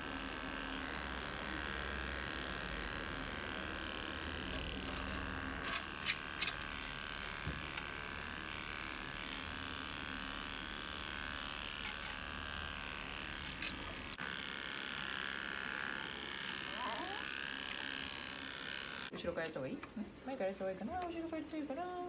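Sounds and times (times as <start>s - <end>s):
electric clippers running: 0.0s - 19.1s.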